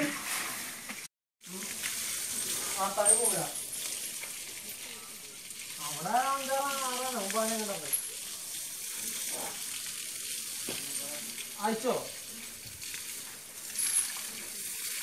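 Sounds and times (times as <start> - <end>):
water spraying from hose: 0.0 - 15.0.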